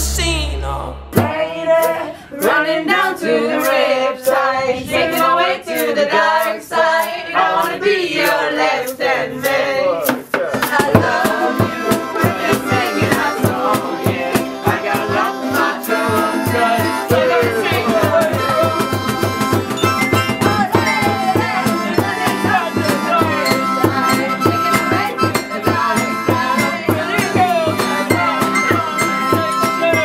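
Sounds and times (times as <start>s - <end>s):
group singing: 1.0s - 30.0s
strummed acoustic guitar and ukulele: 1.2s - 30.0s.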